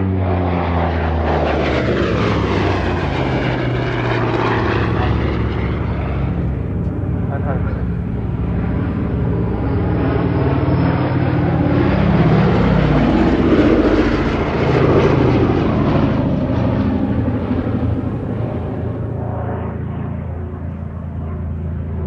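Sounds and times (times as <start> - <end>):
propeller plane flying overhead: 0.0 - 22.0.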